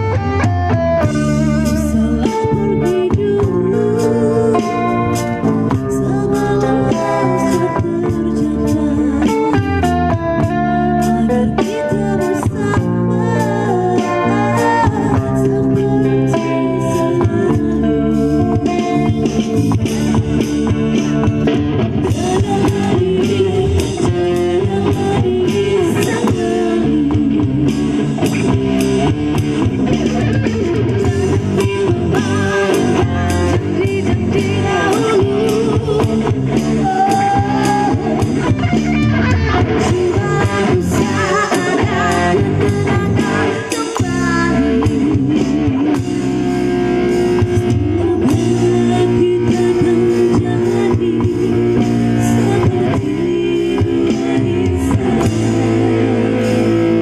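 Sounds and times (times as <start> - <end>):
live band with guitar and drums: 0.0 - 57.0.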